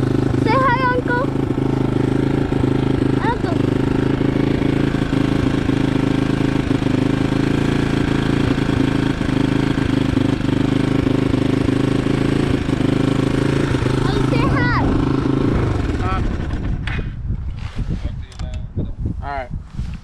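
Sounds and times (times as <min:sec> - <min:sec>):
dirt bike engine idling: 0:00.0 - 0:17.3.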